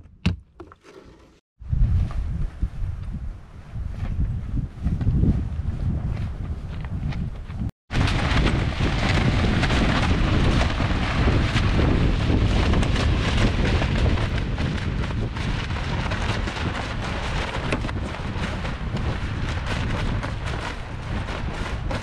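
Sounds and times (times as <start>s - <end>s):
tarp flapping in wind: 0.9s - 22.0s
wind buffeting microphone: 1.6s - 22.0s.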